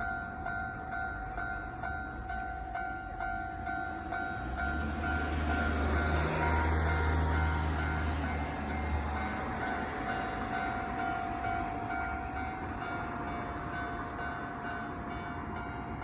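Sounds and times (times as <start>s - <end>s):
level-crossing warning bell ringing: 0.0s - 16.0s
train rumble: 0.0s - 16.0s.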